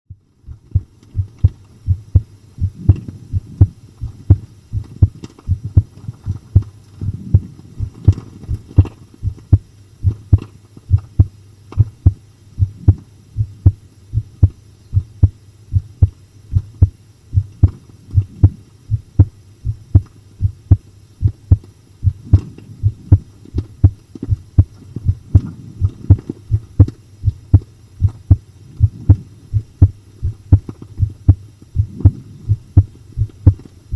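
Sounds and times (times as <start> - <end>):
heartbeat thumps: 0.1 - 33.7.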